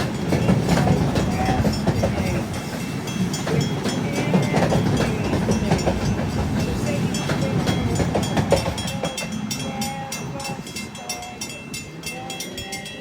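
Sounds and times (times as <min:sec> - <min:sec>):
train passing on tracks: 0:00.0 - 0:13.0
wheels clicking over rail joints: 0:00.0 - 0:13.0.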